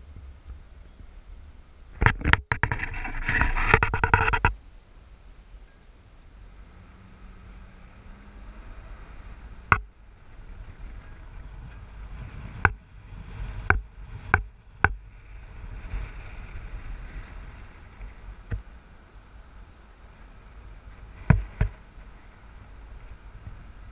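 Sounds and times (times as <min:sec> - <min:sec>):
car engine and tyres rumbling: 0:00.0 - 0:23.9.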